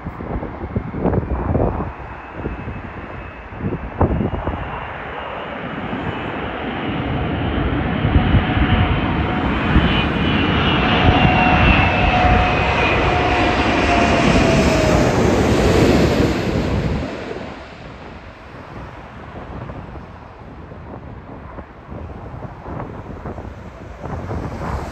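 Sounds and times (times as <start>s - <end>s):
jet airliner passing overhead: 0.0s - 24.9s.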